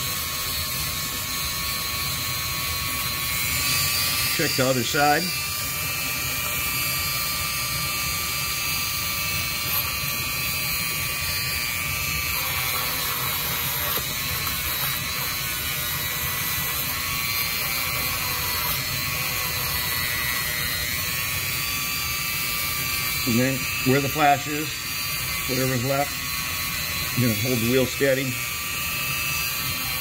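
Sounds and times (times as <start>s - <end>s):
rotary tool grinding plastic: 0.0s - 30.0s.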